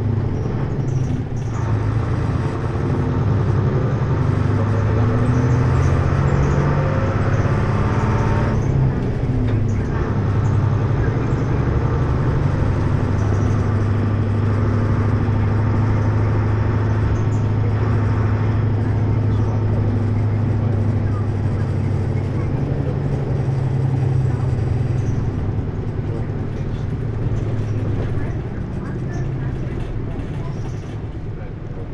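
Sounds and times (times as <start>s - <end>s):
bus engine drone: 0.0s - 31.9s.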